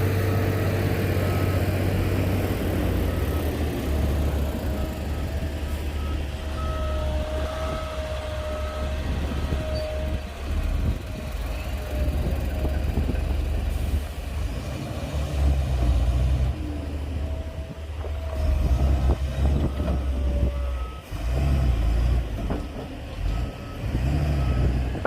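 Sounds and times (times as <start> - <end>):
bulldozer diesel engine rumble: 0.0 - 25.0.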